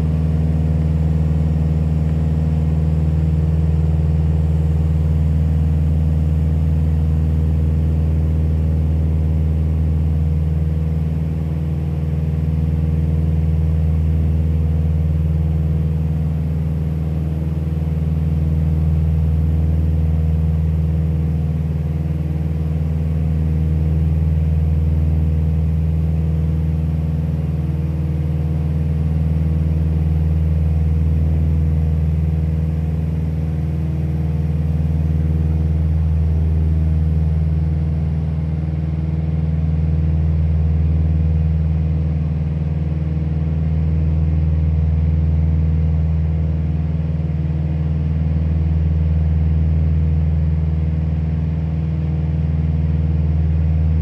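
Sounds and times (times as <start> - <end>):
propeller airplane engine droning: 0.0 - 54.0.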